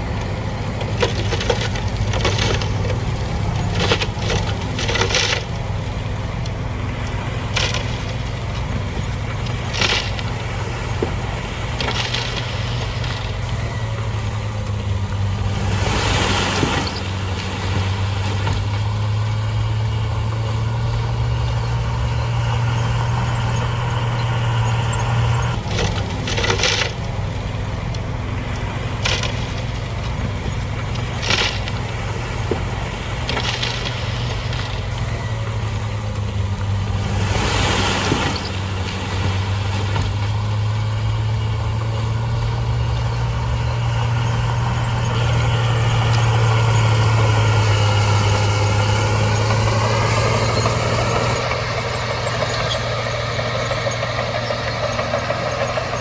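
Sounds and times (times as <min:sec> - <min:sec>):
diesel machinery engine hum: 0:00.0 - 0:56.0
metal and rock clanking: 0:00.0 - 0:56.0.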